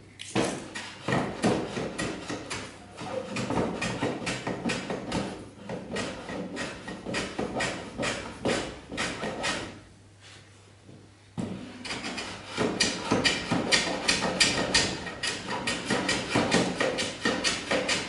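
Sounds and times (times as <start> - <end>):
hand plane scraping wood: 0.4 - 9.8, 11.5 - 18.0.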